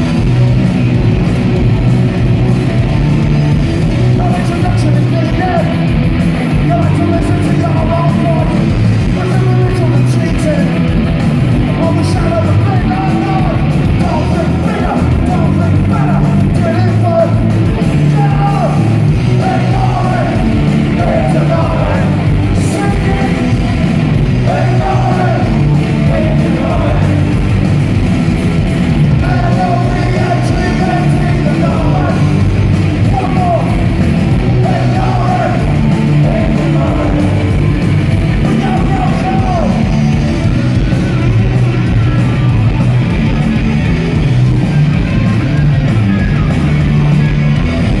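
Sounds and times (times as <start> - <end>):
punk rock song with shouted vocals: 0.0 - 48.0.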